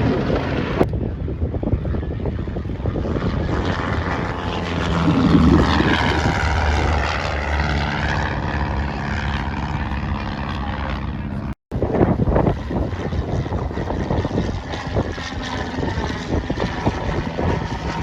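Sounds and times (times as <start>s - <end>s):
light aircraft flying past: 0.0s - 18.0s.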